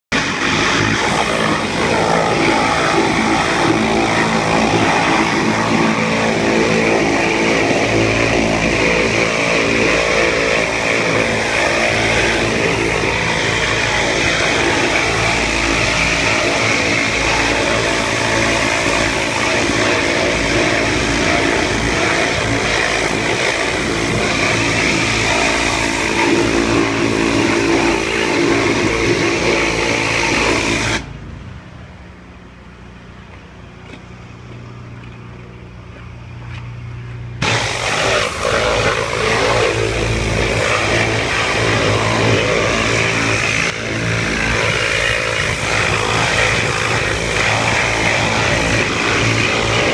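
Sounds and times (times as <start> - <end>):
pressure washer engine hum: 0.0 - 49.9
water jet spraying on metal: 0.1 - 31.0, 37.4 - 49.9.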